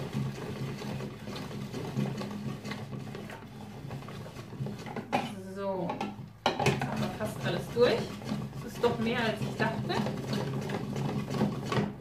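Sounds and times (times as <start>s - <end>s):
rotary grater grating cheese: 0.0s - 5.0s, 6.9s - 12.0s.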